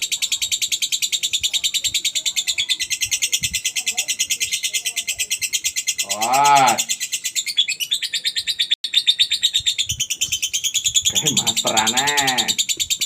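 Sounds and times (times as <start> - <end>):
lovebird rapid high chirps: 0.0 - 13.0.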